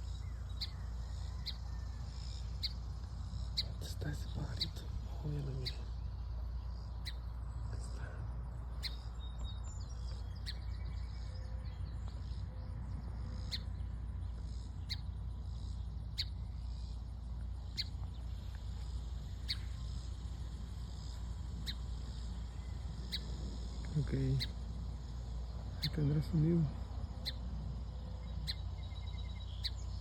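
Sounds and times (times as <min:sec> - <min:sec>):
bird twittering: 0:00.0 - 0:30.0.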